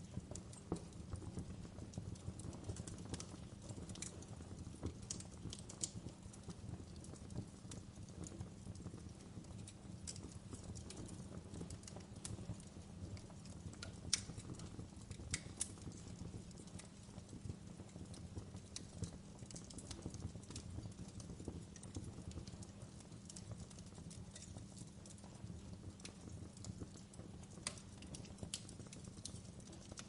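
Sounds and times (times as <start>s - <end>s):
fire popping and snapping: 0.0s - 30.0s
low hum of burning: 0.0s - 30.0s.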